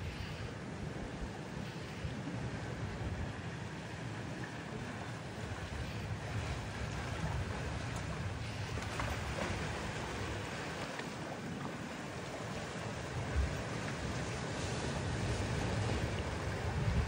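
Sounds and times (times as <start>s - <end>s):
sea waves washing at shore: 0.0s - 17.0s
wind rumble on microphone: 0.0s - 17.0s.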